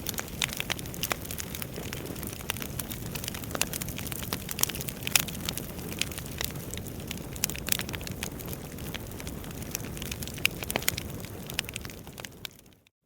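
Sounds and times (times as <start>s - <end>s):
fire flames rumbling: 0.0s - 12.9s
logs crackling and popping: 0.0s - 12.9s.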